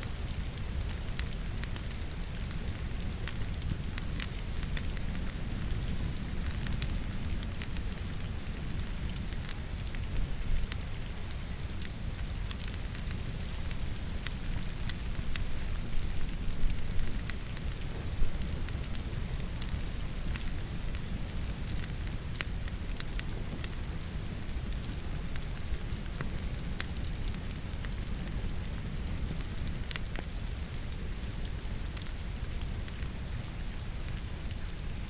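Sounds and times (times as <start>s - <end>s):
firewood crackling and popping: 0.0s - 35.0s
steady rain: 0.0s - 35.0s.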